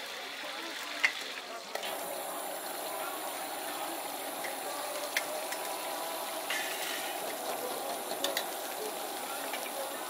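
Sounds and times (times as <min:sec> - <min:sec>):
food sizzling in a wok: 0:00.0 - 0:10.0.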